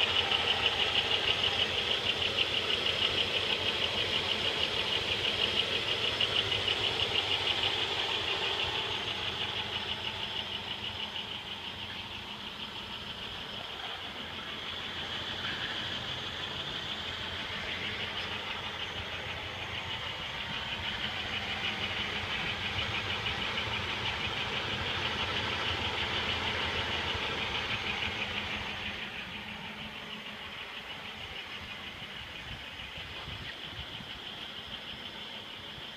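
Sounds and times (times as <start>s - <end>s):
car engine rattling: 0.0s - 35.9s.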